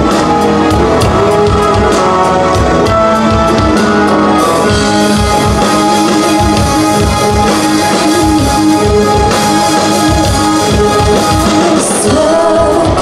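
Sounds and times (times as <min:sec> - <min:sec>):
bass guitar: 0:00.0 - 0:13.0
electric guitars: 0:00.0 - 0:13.0
keyboards: 0:00.0 - 0:13.0.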